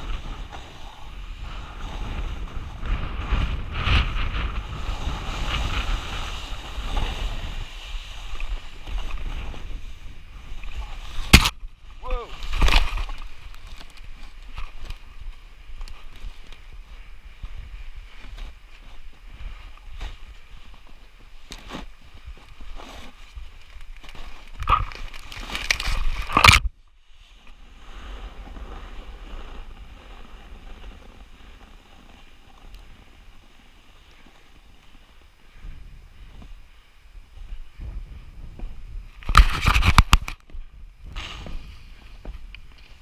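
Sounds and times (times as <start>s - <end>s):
hiss of gliding over snow: 0.0s - 24.5s, 26.9s - 39.2s, 40.6s - 43.0s
sliding on snow scraping: 0.0s - 40.3s, 41.0s - 43.0s.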